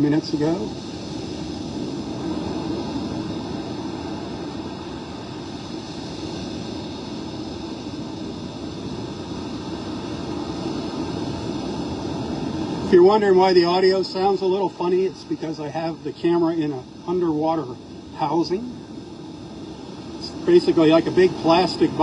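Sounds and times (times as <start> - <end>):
muffled surf: 0.0 - 22.0
muffled wind: 0.0 - 22.0.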